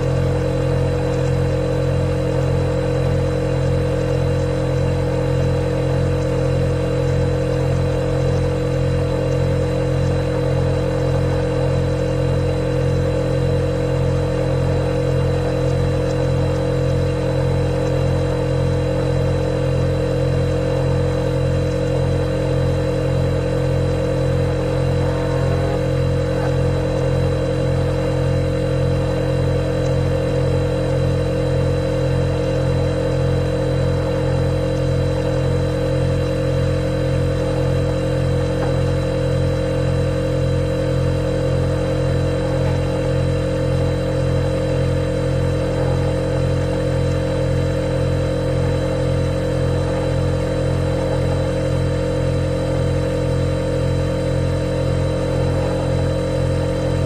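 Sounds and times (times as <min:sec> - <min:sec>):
refrigerator compressor humming: 0:00.0 - 0:57.0.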